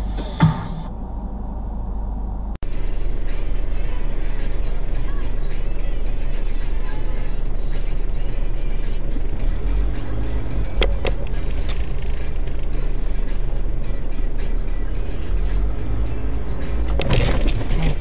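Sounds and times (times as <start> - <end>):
car engine rumble and road noise: 0.0 - 18.0.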